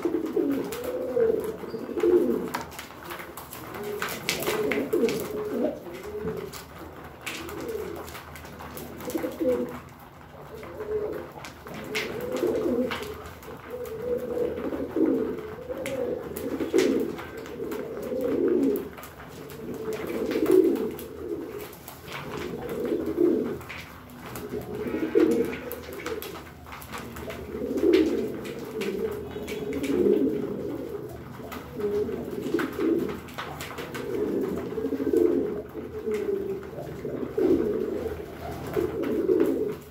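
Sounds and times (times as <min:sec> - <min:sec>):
beaks pecking grain from plastic tray: 0:00.0 - 0:39.9
pigeons cooing: 0:00.0 - 0:39.9.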